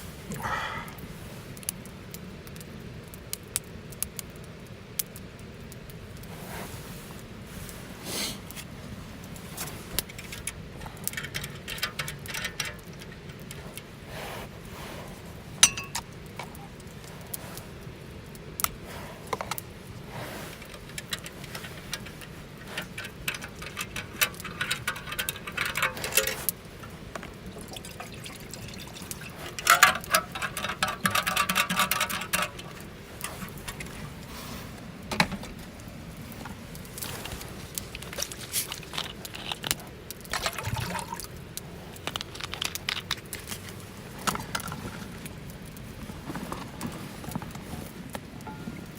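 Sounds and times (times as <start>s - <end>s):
campfire crackling and popping: 0.0s - 48.9s
fire hissing and sputtering: 0.0s - 48.9s.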